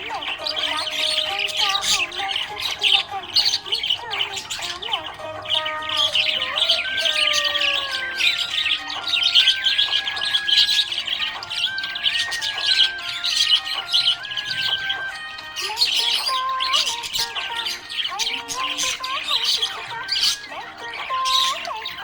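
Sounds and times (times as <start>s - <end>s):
background music with held notes: 0.0s - 22.0s
budgerigars chirping: 0.0s - 22.0s.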